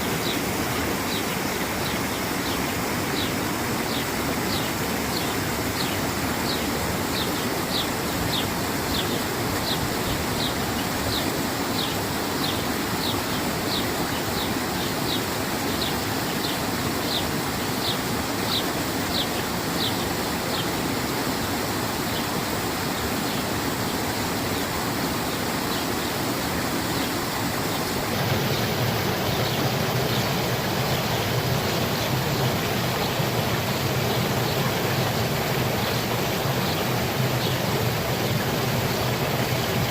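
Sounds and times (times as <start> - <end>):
water running and splashing: 0.0 - 39.9.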